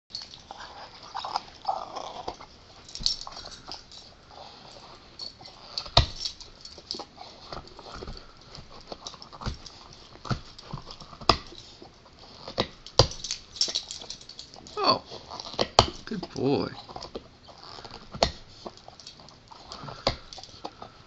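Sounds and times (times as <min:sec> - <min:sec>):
dog chewing rubber toy: 0:00.1 - 0:21.0.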